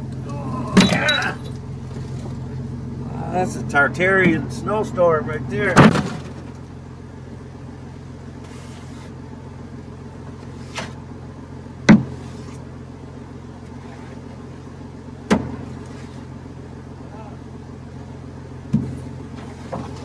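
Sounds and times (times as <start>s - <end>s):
pickup engine idling: 0.0s - 20.0s.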